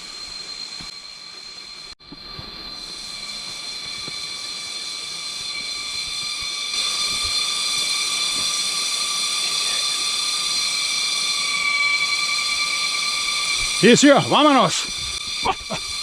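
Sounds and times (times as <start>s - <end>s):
cicadas droning: 0.0s - 16.0s.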